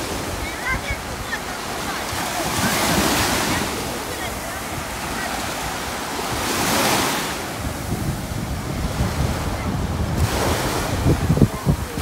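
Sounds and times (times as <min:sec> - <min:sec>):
waves washing on sandy shore: 0:00.0 - 0:12.0
wind buffeting microphone: 0:00.0 - 0:12.0.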